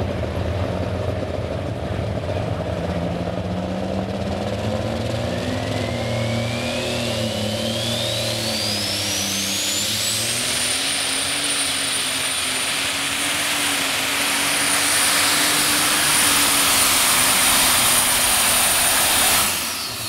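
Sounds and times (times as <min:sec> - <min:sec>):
high turbo whine: 0:00.0 - 0:20.0
tractor engine at full throttle: 0:00.0 - 0:20.0.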